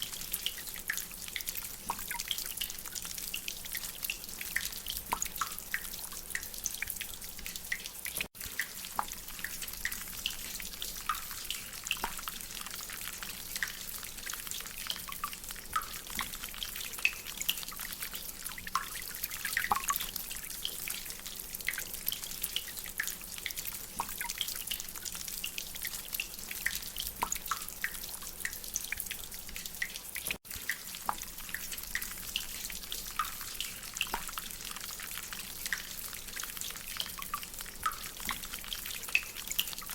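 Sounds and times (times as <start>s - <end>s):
water dripping from drainpipe: 0.0s - 39.9s.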